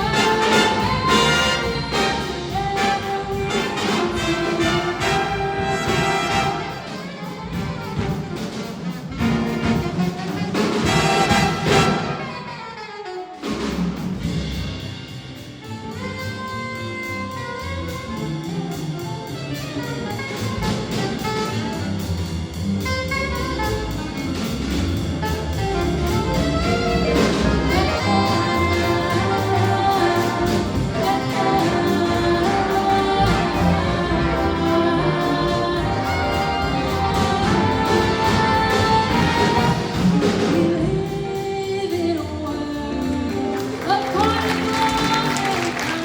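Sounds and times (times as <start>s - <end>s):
brass ensemble playing rock song: 0.0s - 46.0s
trumpet: 0.0s - 46.0s.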